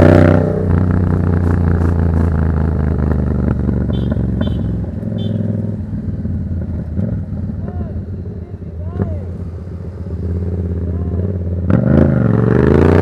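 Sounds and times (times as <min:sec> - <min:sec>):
motorcycle engine idling: 0:00.9 - 0:11.6.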